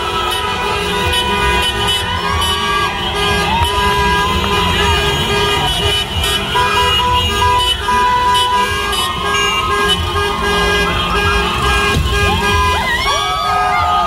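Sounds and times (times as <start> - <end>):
car horns honking: 0.0 - 14.0
crowd on foot: 0.0 - 14.0
street traffic rumble: 0.0 - 14.0.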